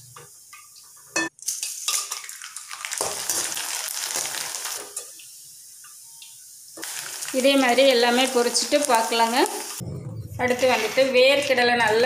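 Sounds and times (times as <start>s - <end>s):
food sizzling in hot oil: 0.0s - 9.8s.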